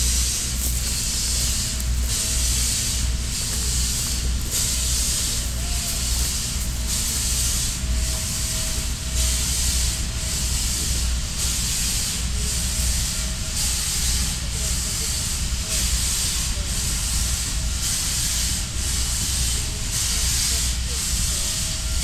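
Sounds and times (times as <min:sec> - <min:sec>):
distant steam locomotive hiss: 0:00.0 - 0:22.0.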